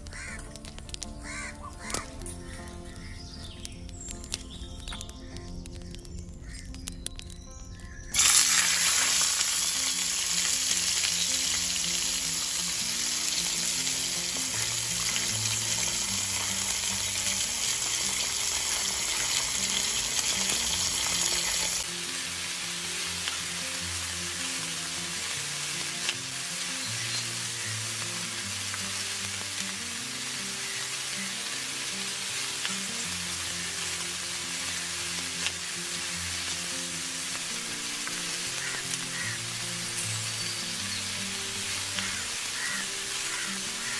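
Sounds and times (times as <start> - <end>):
batter sizzling in hot oil: 7.7 - 43.9.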